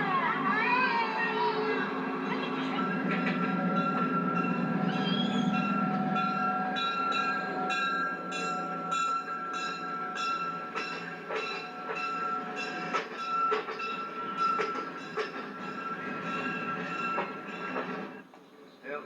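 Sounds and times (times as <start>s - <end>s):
railroad cars rumbling: 0.0s - 19.0s.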